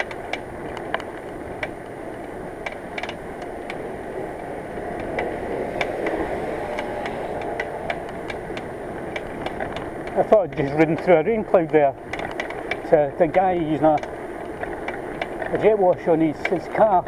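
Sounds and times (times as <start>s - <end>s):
bicycle hub ticking and rattling: 0.0s - 17.0s
bicycle rolling on wet road: 0.0s - 17.0s.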